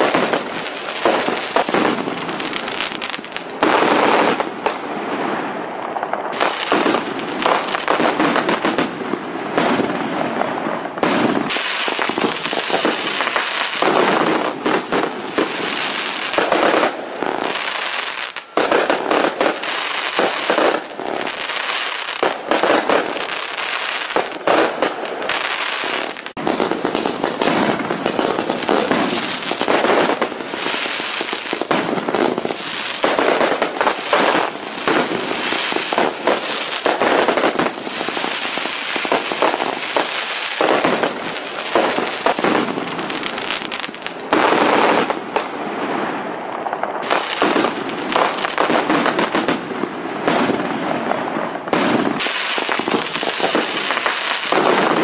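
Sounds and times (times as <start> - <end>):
fireworks bangs and pops: 0.0 - 55.0.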